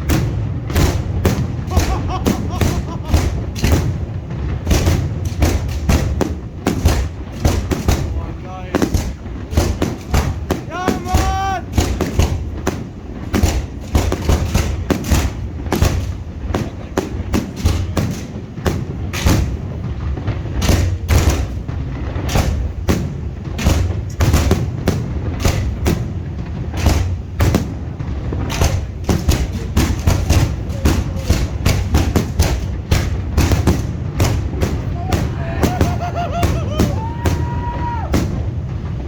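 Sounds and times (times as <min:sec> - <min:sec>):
firework shell bursts: 0:00.0 - 0:39.0.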